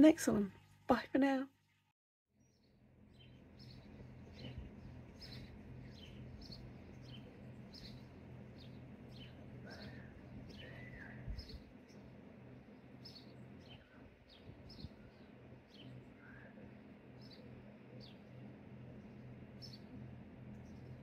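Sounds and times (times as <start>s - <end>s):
faint low hum: 2.4s - 21.0s
small birds chirping: 2.4s - 21.0s
lower arched bird calls: 2.5s - 21.0s.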